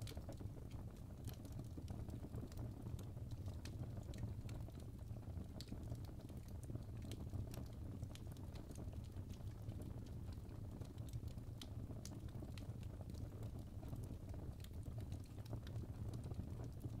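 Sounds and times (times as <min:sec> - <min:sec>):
fire crackling: 0:00.0 - 0:17.0
low rumble of flames: 0:00.0 - 0:17.0.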